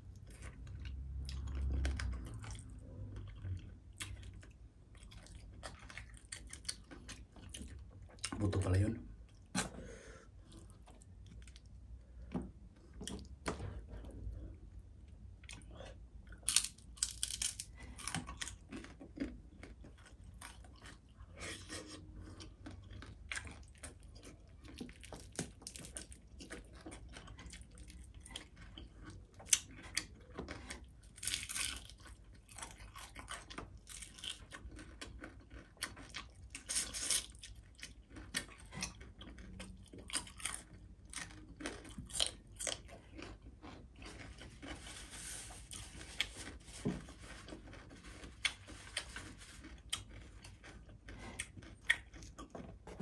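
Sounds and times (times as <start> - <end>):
chewing and crunching fried fish: 0.0 - 9.6, 10.3 - 53.0.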